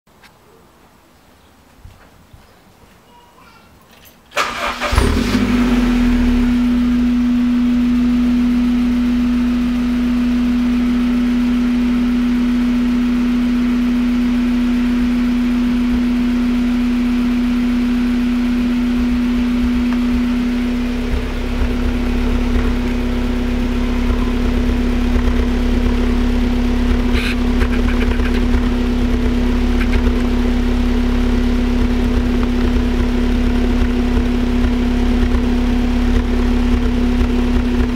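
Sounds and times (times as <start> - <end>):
car engine starting and idling: 4.3 - 37.9.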